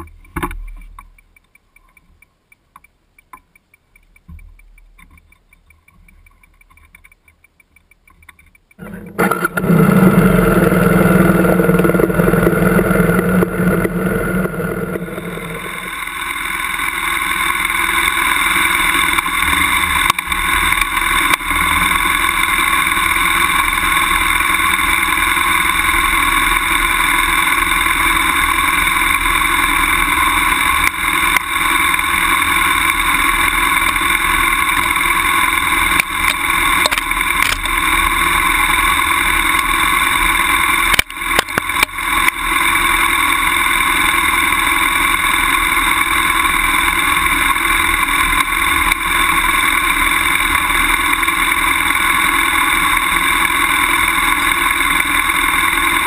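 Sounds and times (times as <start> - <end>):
motorcycle engine running: 8.0 - 56.0.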